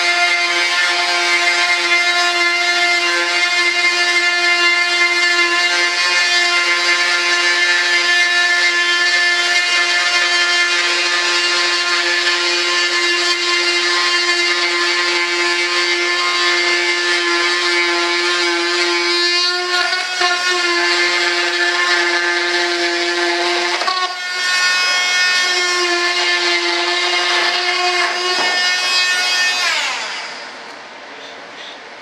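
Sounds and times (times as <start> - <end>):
rotary tool whining: 0.0 - 30.8.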